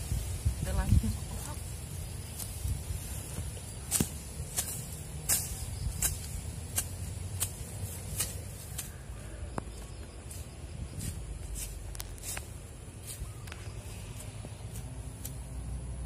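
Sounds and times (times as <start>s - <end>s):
hands digging in soil: 0.0s - 16.0s.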